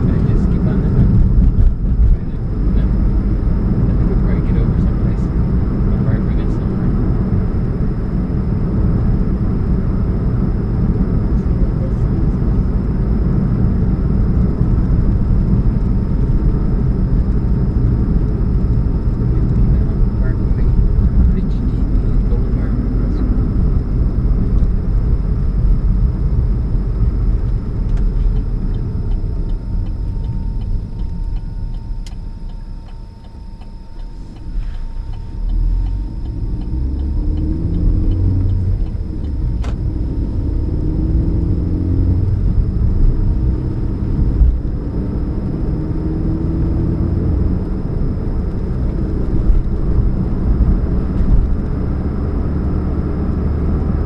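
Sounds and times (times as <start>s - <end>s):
car engine rumbling and humming: 0.0s - 54.0s.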